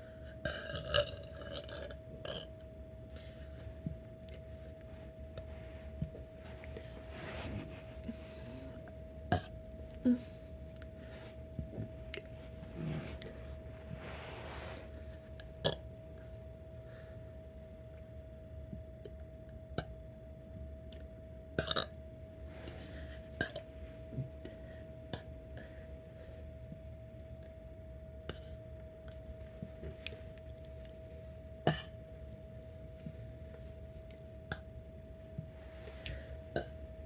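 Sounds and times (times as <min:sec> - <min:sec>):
faint hum: 0:00.0 - 0:37.0.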